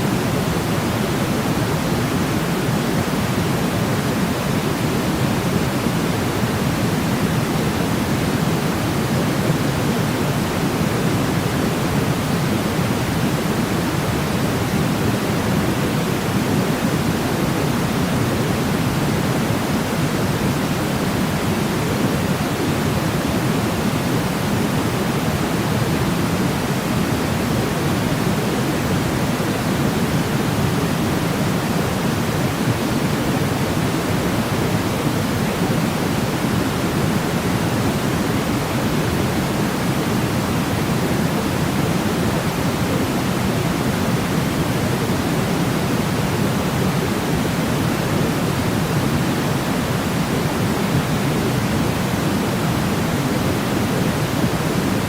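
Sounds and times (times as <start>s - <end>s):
steady white noise rush: 0.0s - 55.0s.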